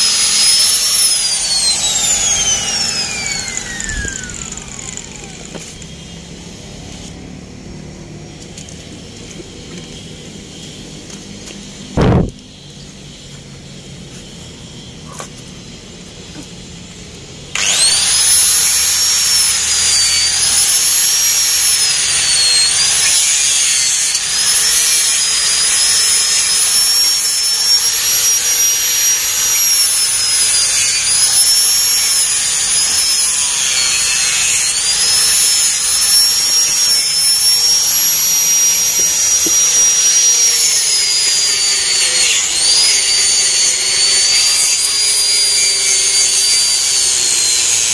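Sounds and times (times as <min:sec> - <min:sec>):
angle grinder whining: 0:00.0 - 0:47.9.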